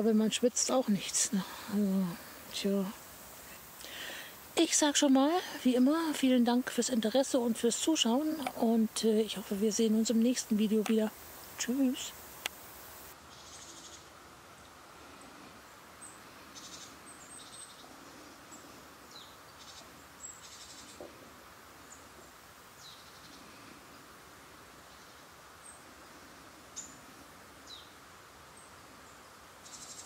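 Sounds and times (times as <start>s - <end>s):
steady soft hiss: 0.0s - 30.0s.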